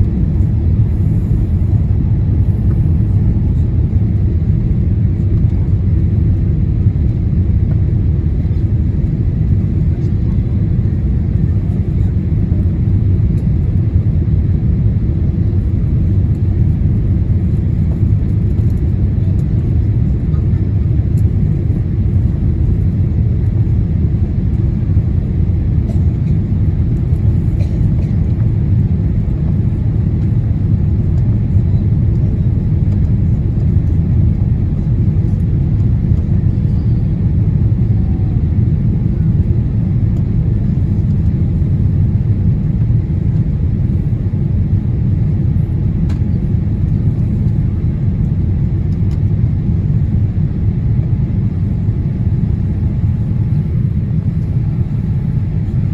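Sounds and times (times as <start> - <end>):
airplane cabin engine drone: 0.0 - 55.9.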